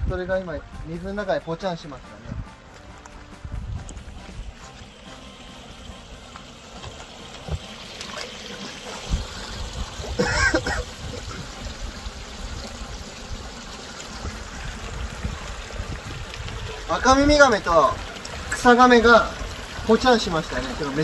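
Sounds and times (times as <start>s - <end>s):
water splashing around legs: 2.6s - 21.0s.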